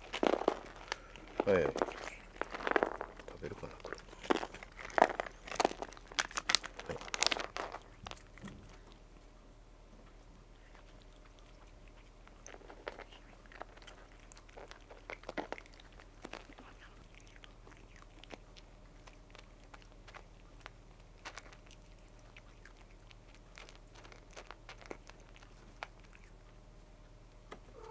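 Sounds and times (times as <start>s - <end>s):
cats crunching dry kibble: 0.0s - 27.9s.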